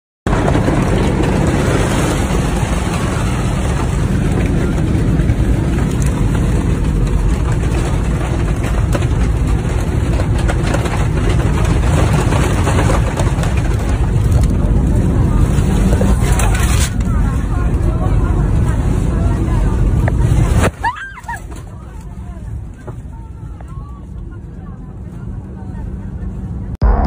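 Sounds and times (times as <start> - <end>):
airliner cabin roar: 0.3 - 27.0.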